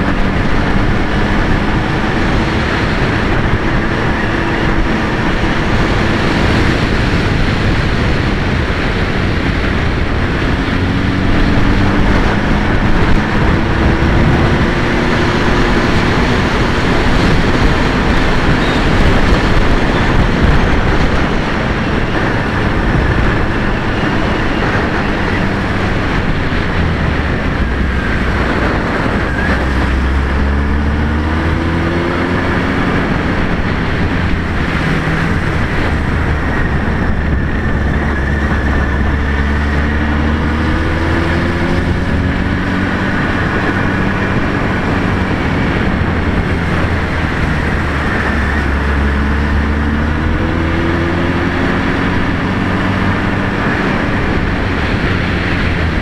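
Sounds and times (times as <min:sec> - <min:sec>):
motorcycle engine accelerating: 0:00.0 - 0:56.0
wind rushing across microphone: 0:00.0 - 0:56.0.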